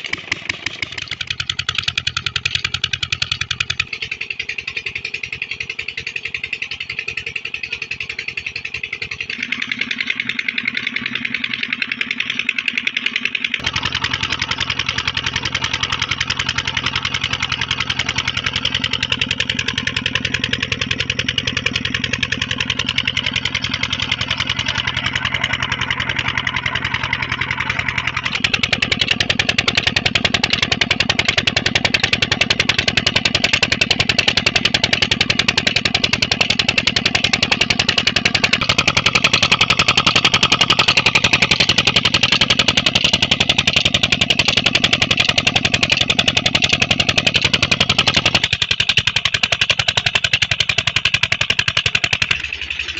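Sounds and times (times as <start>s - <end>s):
diesel engine knocking: 0.0s - 52.9s.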